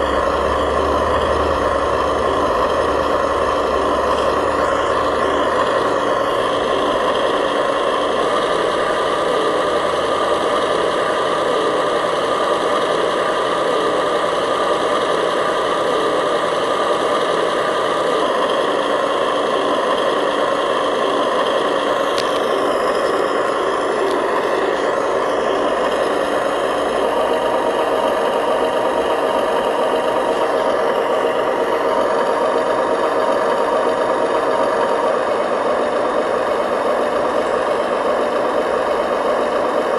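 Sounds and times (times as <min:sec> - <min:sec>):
model truck engine drone: 0:00.0 - 0:39.9.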